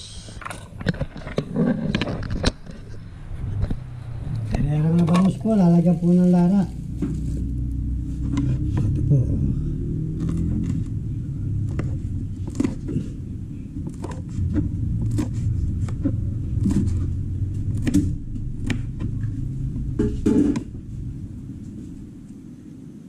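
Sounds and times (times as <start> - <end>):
low rumble: 1.4 - 23.0.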